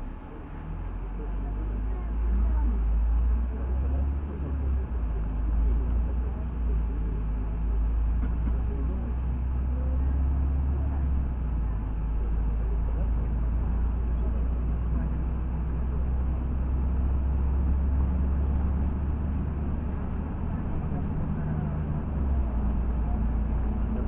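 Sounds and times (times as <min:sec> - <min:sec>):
bus engine drone: 0:00.0 - 0:24.0
road noise: 0:00.0 - 0:24.0.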